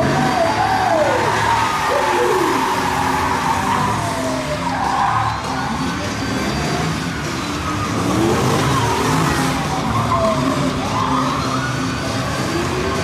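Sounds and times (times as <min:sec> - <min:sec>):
engine revving hard: 0:00.0 - 0:13.0
tyres squealing: 0:00.0 - 0:13.0.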